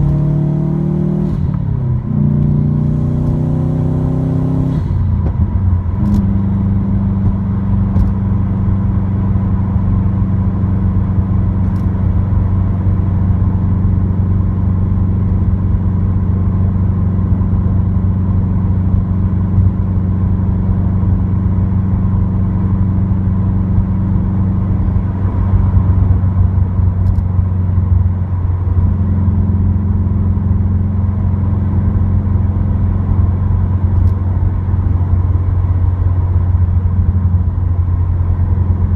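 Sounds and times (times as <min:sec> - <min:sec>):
car engine droning in cabin: 0:00.0 - 0:38.9.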